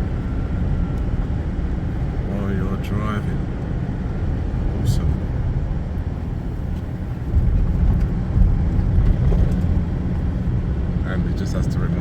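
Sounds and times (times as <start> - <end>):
truck engine and tyres rumbling: 0.0 - 12.0.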